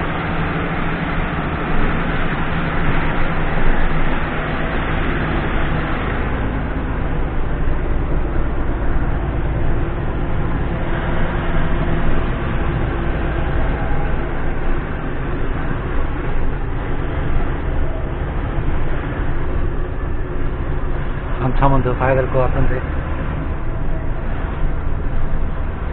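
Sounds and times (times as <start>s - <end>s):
diesel truck engine pulling uphill: 0.0s - 25.9s.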